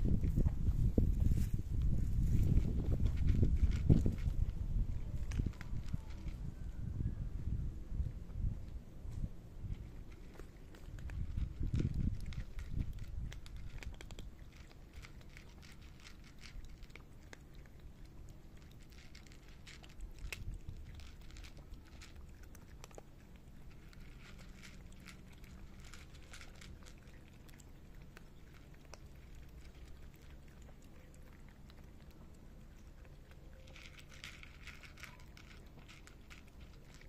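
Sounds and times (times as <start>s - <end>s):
cats crunching dry kibble: 0.0s - 7.0s, 7.6s - 37.0s.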